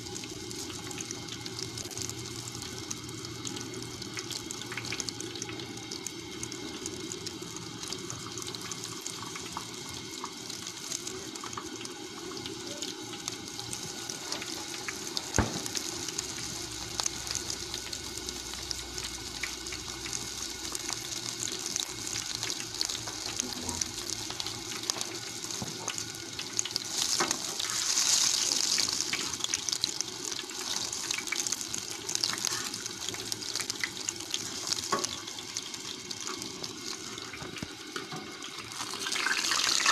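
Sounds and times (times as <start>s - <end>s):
deep-frying sizzle with crackles: 0.0s - 39.9s.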